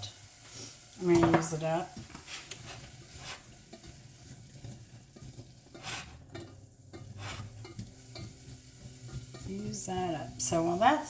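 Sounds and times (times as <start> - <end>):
onions sizzling in butter: 0.0 - 11.0.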